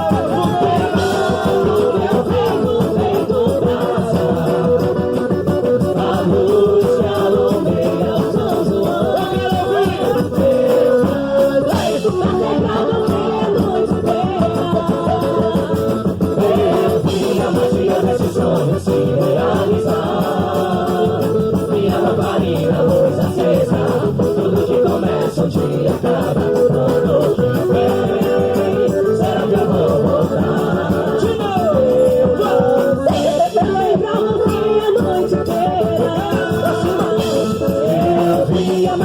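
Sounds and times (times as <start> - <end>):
singing over instruments: 0.0 - 39.0.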